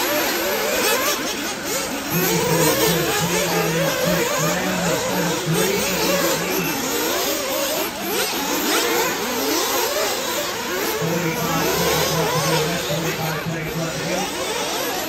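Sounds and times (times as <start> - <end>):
rc buggy motors revving: 0.0 - 15.0.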